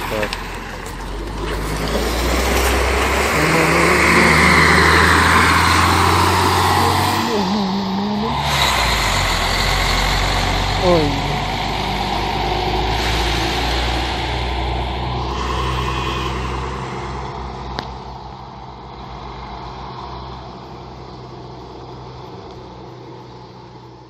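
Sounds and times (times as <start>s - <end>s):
coach diesel engine pulling away: 0.0s - 24.0s
small car driving: 0.0s - 24.0s.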